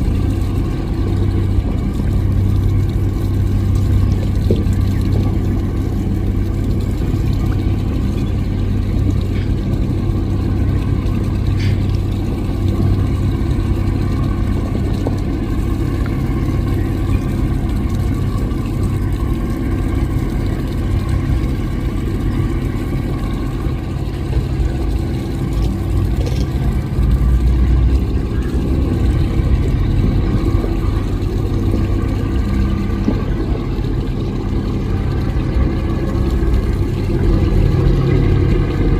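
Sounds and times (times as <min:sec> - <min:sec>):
speedboat engines humming: 0:00.0 - 0:38.9.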